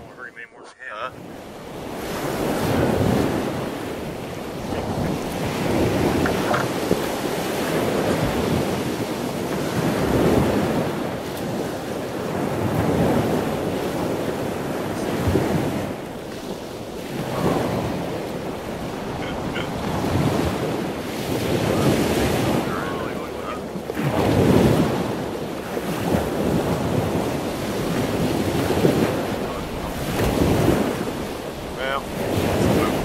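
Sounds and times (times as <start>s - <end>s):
water sloshing against hull: 1.1s - 33.0s
wind buffeting microphone: 1.2s - 33.0s.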